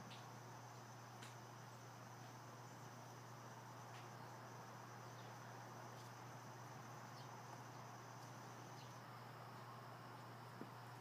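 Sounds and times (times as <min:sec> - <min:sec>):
crickets trilling: 0:00.0 - 0:11.0
low steady hum: 0:00.0 - 0:11.0.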